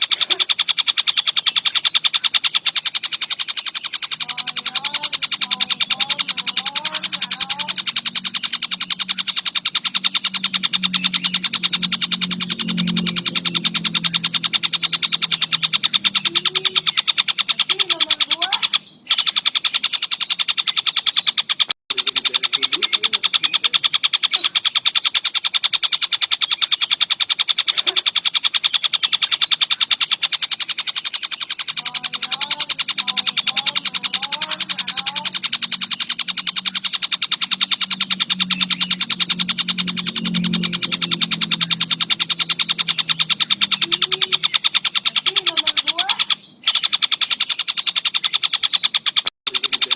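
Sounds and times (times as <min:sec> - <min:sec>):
kingfisher rattling chatter: 0:00.0 - 0:49.9
low gliding chirps: 0:00.0 - 0:49.9.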